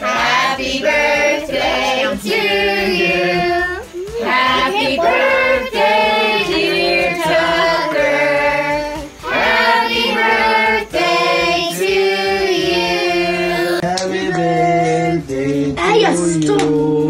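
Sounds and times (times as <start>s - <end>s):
voices singing long held notes: 0.0s - 15.6s.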